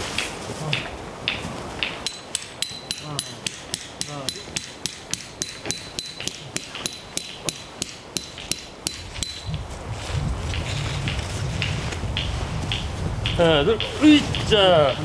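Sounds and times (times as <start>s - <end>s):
hammer striking tent pegs: 0.2s - 9.6s, 10.5s - 15.0s.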